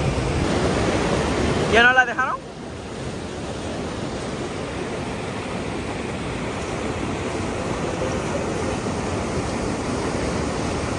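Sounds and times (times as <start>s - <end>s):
churning water rushing: 0.0s - 10.9s.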